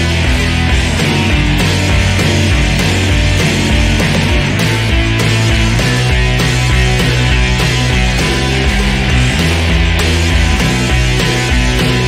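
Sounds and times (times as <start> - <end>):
loud rock music with steady beat: 0.0 - 12.0.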